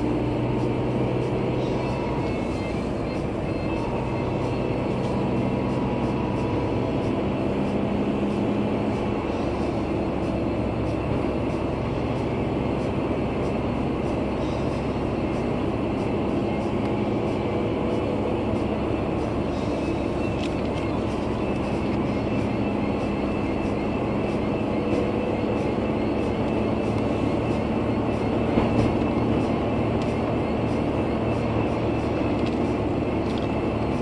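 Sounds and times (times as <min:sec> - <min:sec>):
car engine hum: 0:00.0 - 0:34.0
tyre and road noise: 0:00.0 - 0:34.0.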